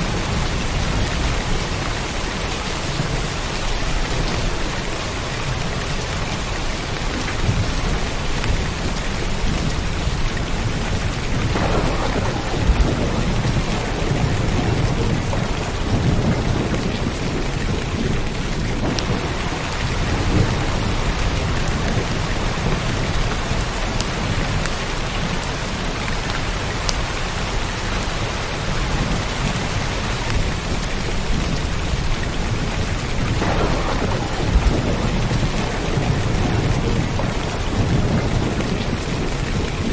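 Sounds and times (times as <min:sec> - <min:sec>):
low thunder rumble: 0:00.0 - 0:39.9
sharp raindrop ticks: 0:00.0 - 0:39.9
steady rain falling: 0:00.0 - 0:39.9.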